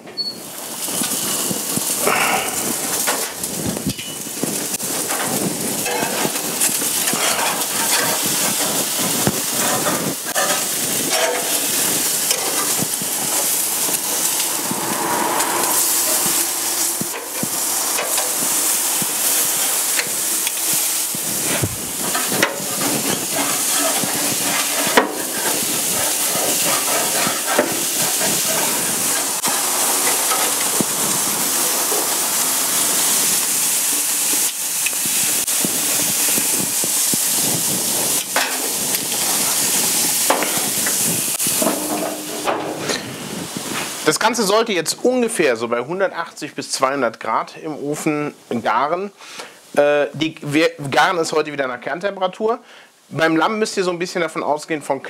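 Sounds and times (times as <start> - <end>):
meat sizzling on a grill: 0.2 - 45.5.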